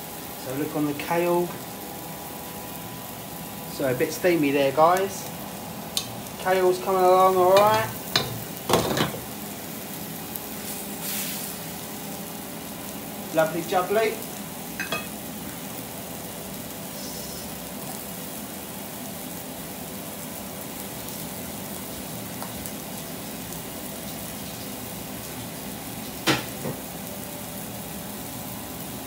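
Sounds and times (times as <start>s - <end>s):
steaks sizzling in a grill pan: 0.0s - 29.0s.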